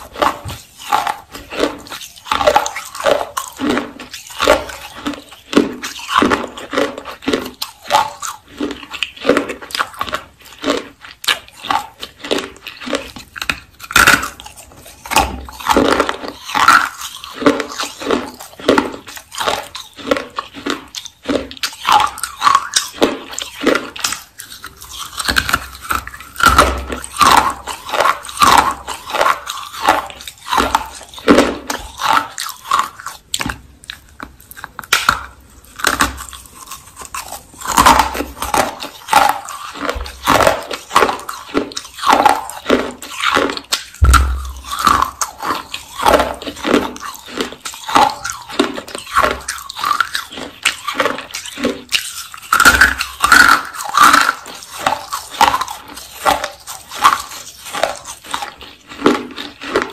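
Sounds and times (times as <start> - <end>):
person chewing with dry crunches: 0.0 - 59.9.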